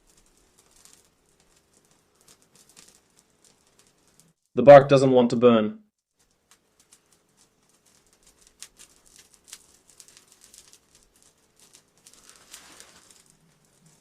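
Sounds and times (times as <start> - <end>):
kindling crackling in a wood stove: 0.0 - 4.6, 5.9 - 14.0.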